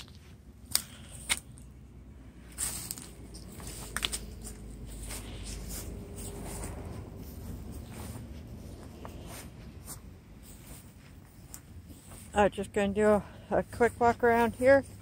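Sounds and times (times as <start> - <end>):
low rumble: 0.0 - 12.4
soft footsteps on grass: 2.3 - 15.0.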